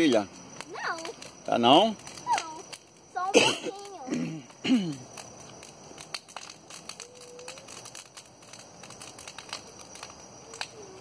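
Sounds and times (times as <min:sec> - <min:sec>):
bonfire crackling: 0:00.0 - 0:11.0.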